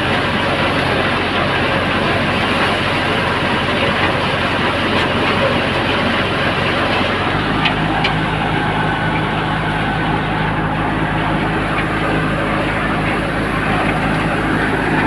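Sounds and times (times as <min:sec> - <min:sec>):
tractor engine and thresher din: 0:00.0 - 0:15.0.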